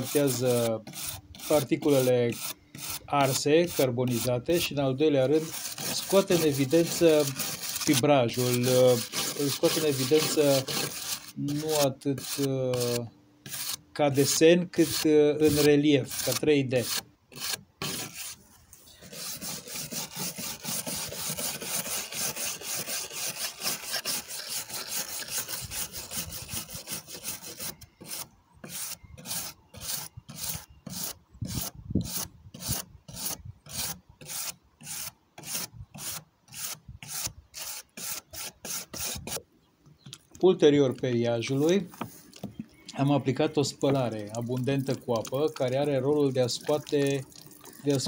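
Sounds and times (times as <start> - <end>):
wire brush scrubbing wood: 0.0 - 18.4, 19.0 - 39.4, 43.3 - 48.0.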